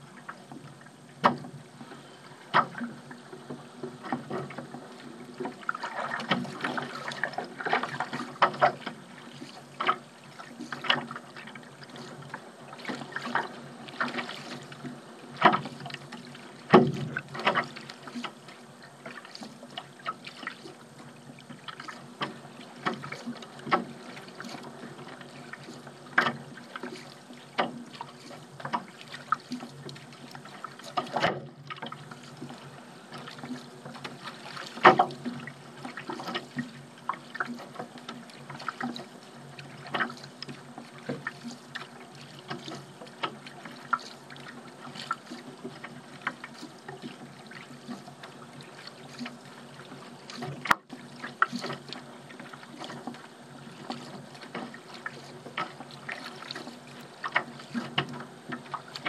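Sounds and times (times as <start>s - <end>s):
paddle splashing in water: 0.0s - 59.0s
paddle knocks: 0.5s - 18.5s, 21.5s - 59.0s.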